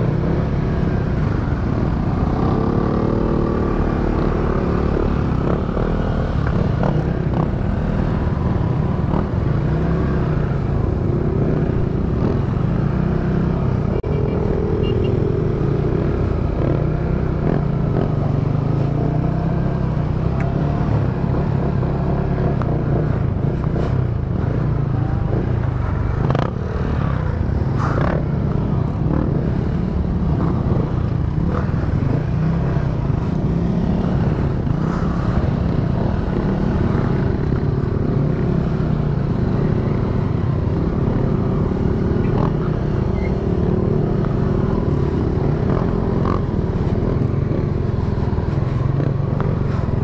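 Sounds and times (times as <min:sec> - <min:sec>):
vehicle engine rumbling: 0:00.0 - 0:50.0.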